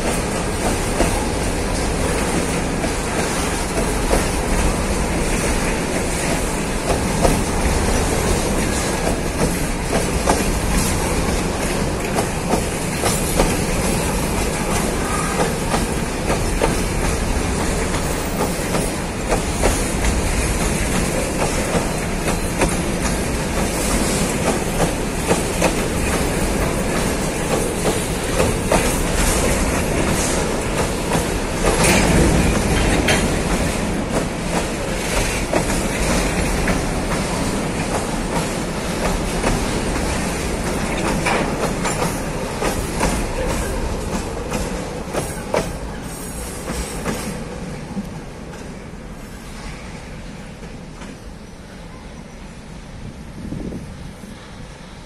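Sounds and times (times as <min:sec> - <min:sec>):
train wheels clacking over rail joints: 0:00.0 - 0:48.8
freight train rumble and rattle: 0:00.0 - 0:55.0.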